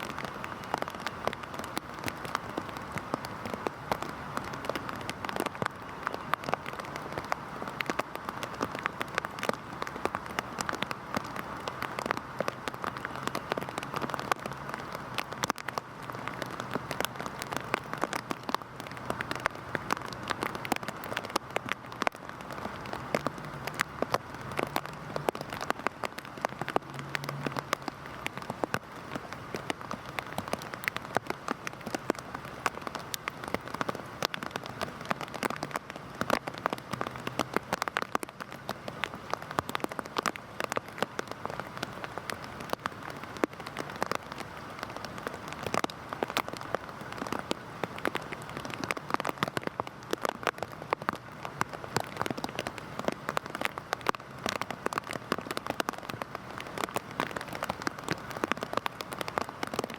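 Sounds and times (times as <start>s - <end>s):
heavy rain on a surface: 0.0s - 59.9s.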